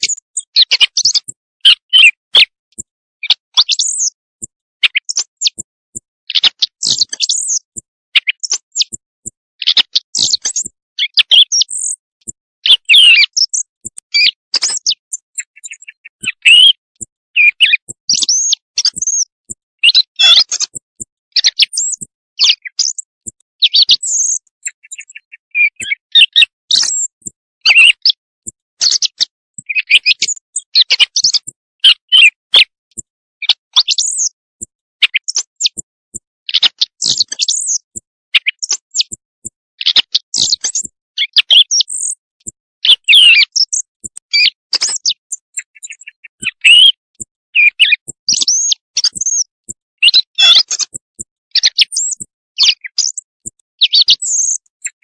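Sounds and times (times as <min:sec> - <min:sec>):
quail calls chirping and trilling: 0:00.0 - 0:02.5, 0:03.2 - 0:04.2, 0:04.8 - 0:05.7, 0:06.3 - 0:09.0, 0:09.6 - 0:12.0, 0:12.6 - 0:32.7, 0:33.4 - 0:35.9, 0:36.5 - 0:42.2, 0:42.8 - 0:55.0.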